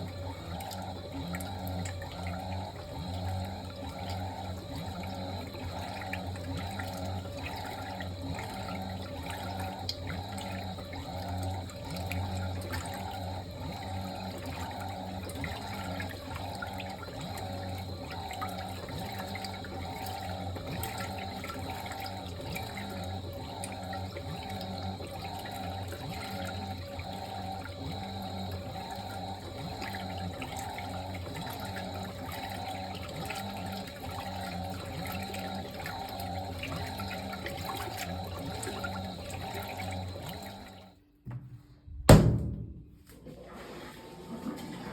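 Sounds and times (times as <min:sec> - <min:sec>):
water rushing into washing machine: 0:00.0 - 0:44.9.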